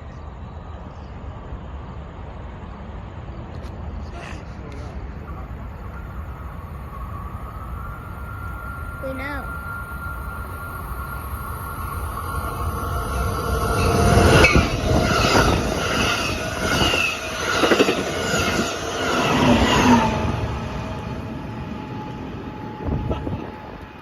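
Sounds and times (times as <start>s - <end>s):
train passing on rails: 0.0s - 24.0s.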